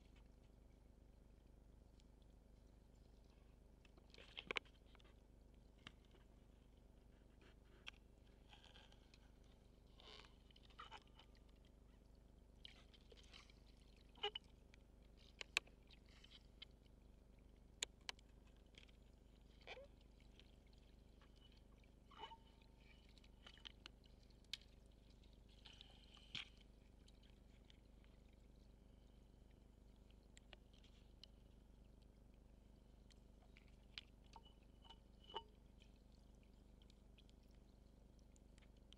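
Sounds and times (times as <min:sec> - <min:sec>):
underwater clicks and crackles: 0:00.0 - 0:00.7, 0:01.4 - 0:38.9
low underwater hum: 0:00.0 - 0:38.9.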